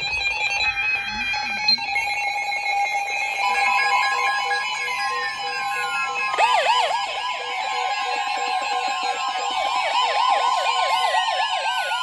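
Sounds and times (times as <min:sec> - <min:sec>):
warbling siren-like alert tone: 0:00.0 - 0:12.0.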